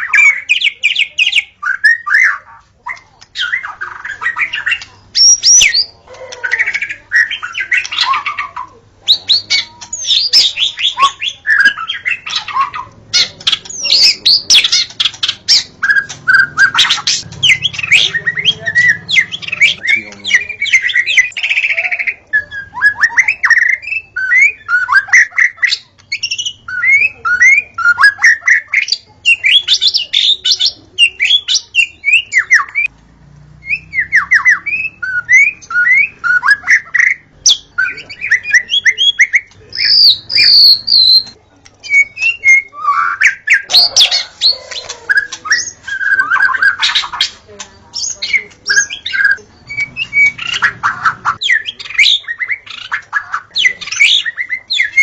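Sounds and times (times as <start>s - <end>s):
bird singing whistles and trills: 6.5s - 32.9s, 33.6s - 47.2s, 48.0s - 55.0s.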